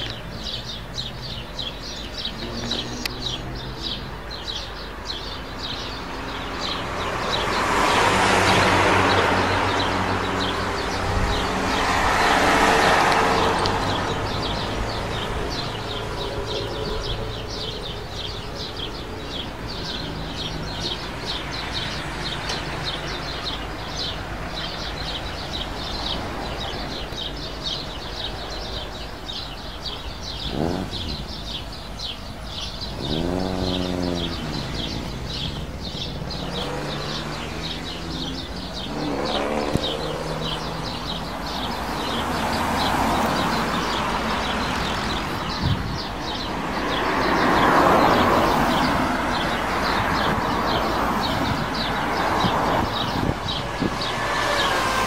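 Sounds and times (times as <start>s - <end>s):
cars passing by: 0.0s - 55.0s
motorcycle passing: 0.0s - 55.0s.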